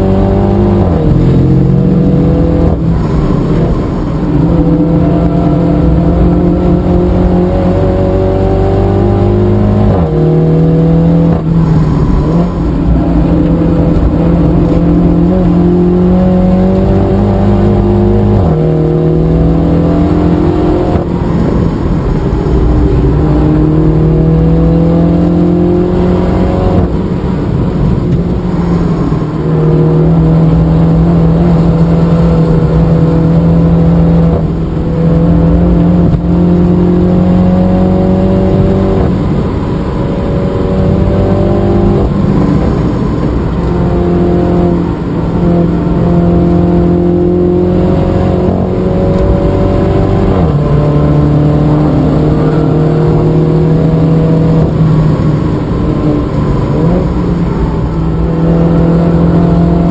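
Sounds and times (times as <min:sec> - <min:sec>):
car engine pulling hard: 0:00.0 - 0:59.9.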